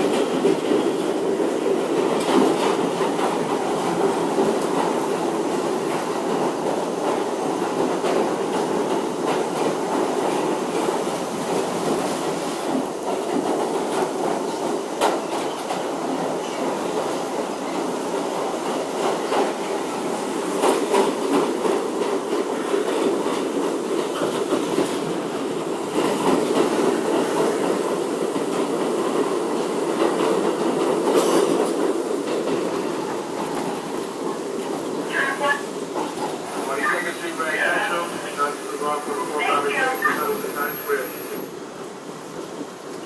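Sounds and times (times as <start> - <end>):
subway car rumbling through tunnel: 0.0 - 43.0.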